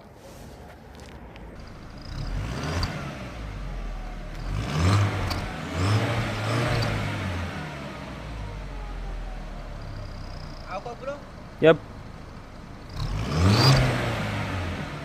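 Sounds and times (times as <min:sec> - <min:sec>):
car engine revving: 0:00.4 - 0:15.0.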